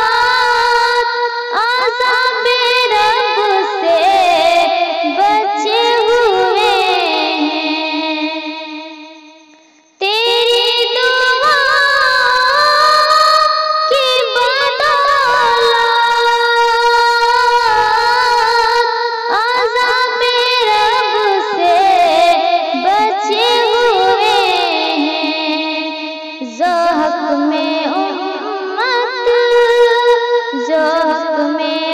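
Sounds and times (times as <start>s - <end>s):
woman singing: 0.0s - 9.1s, 10.0s - 31.9s.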